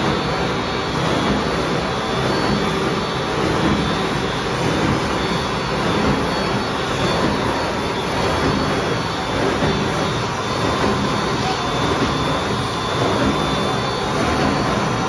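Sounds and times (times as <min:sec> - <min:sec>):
machine running: 0:00.0 - 0:15.0.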